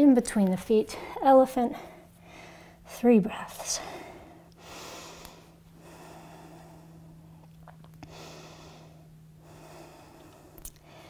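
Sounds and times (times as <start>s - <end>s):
faint steady hum: 0.0s - 11.0s
woman breathing slowly: 0.9s - 2.9s, 3.5s - 11.0s.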